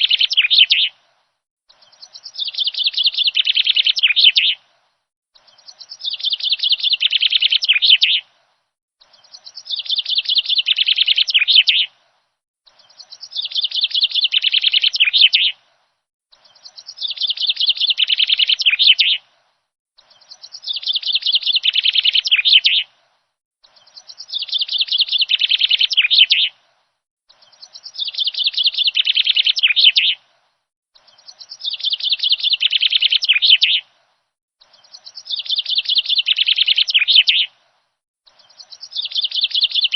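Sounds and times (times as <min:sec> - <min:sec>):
birdsong chirps: 0:00.0 - 0:39.9.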